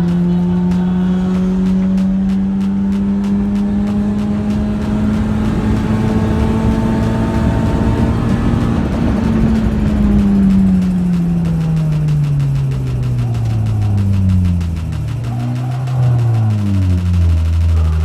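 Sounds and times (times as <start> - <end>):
car engine at high revs: 0.0 - 18.0
rapid faint ticks: 0.0 - 18.0.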